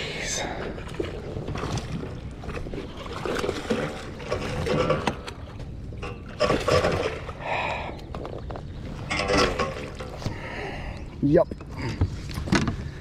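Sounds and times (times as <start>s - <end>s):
water splashing: 0.0s - 10.9s.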